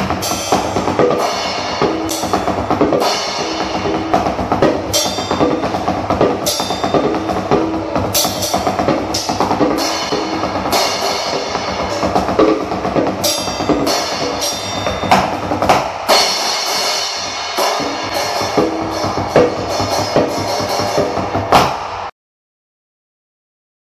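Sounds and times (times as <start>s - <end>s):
cymbal crashes: 0.0s - 22.1s
drumsticks on bongos and practice pad: 0.0s - 22.1s.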